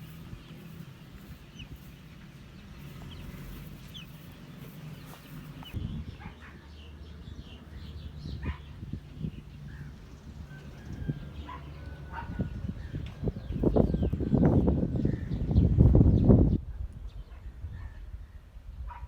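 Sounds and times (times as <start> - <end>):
chicks peeping and clucking: 0.0 - 15.8.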